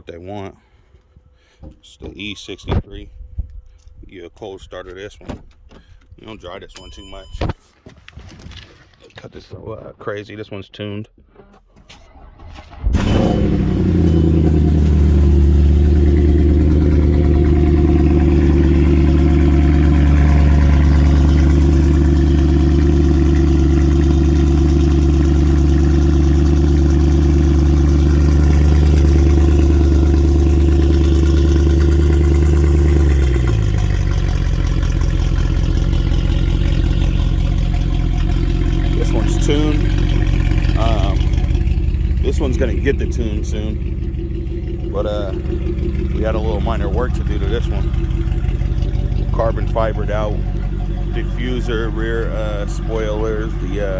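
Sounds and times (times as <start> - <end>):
car engine starting and idling: 1.6 - 7.6, 11.1 - 53.9.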